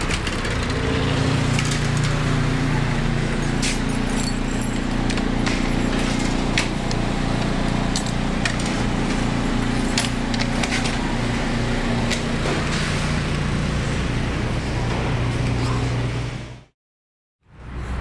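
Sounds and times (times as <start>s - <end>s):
low machinery hum: 0.2s - 16.7s.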